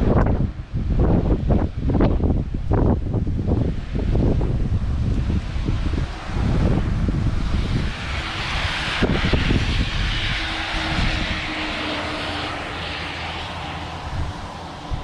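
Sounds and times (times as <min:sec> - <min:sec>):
wind buffeting microphone: 0:00.0 - 0:15.0
rushing noise of passing vehicle: 0:02.8 - 0:15.0.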